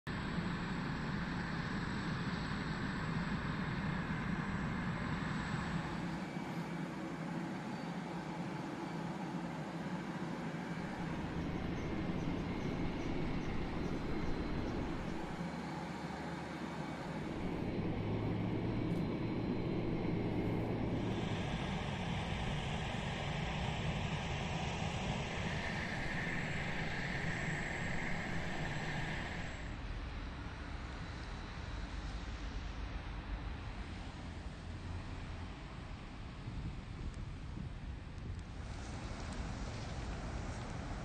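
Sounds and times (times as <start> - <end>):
jet engines running: 0.1 - 41.0
low steady hum: 0.1 - 41.0.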